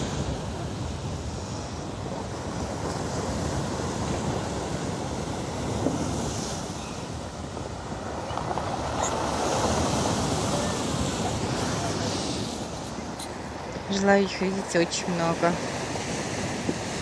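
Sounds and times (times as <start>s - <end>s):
surf breaking on stone beach: 0.0s - 17.0s
wind on microphone: 0.0s - 17.0s.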